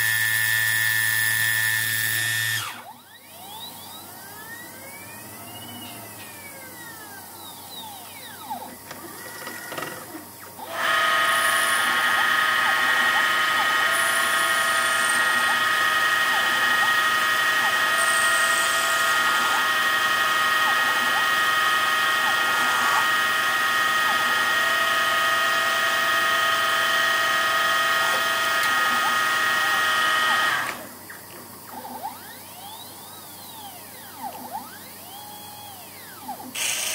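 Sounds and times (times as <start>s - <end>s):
lathe motor whines sweeping: 0.0s - 36.9s
loud high machine whine: 0.0s - 36.9s.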